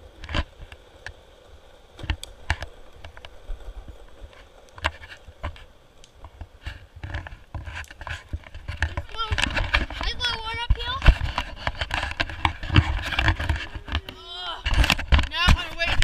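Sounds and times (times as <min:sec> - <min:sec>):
skateboard clacks: 0:00.0 - 0:16.0
skateboard wheels rolling on asphalt: 0:00.0 - 0:16.0.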